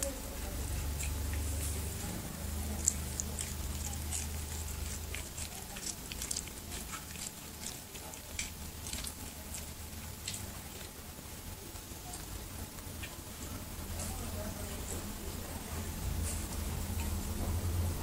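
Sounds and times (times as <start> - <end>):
kitten chewing and licking: 0.0 - 18.0.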